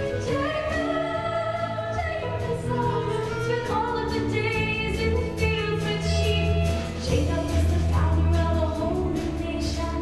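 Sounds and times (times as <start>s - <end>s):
instrumental accompaniment: 0.0s - 10.0s.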